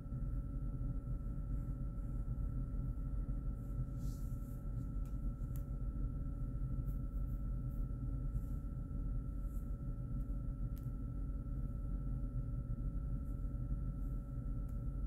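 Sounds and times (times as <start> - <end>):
faint whine: 0.0 - 15.0
low background hum: 0.0 - 15.0.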